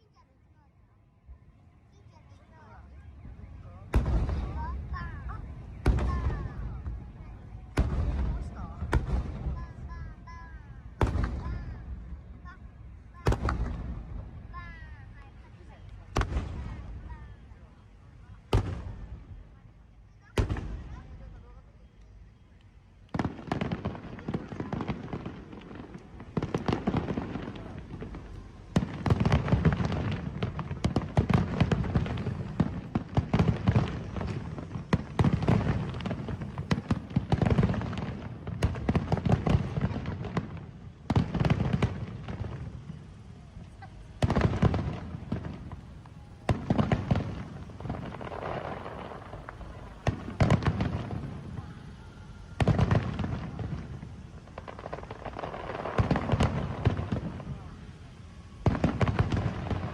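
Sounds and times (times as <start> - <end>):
fireworks bangs and crackling: 1.8 - 59.9.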